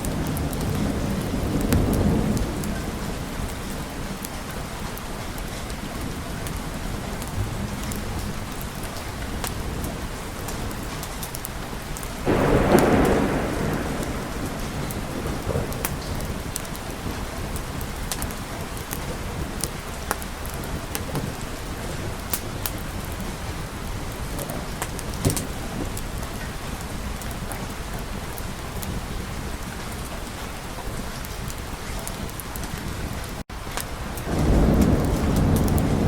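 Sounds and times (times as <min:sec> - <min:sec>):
steady rain: 0:00.0 - 0:36.0
thunder clap rumbling: 0:00.0 - 0:36.0.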